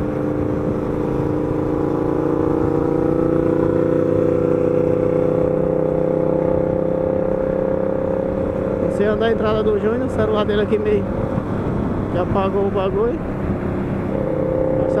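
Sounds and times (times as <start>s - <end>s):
motorcycle engine at speed: 0.0s - 15.0s
wind and road noise: 0.0s - 15.0s.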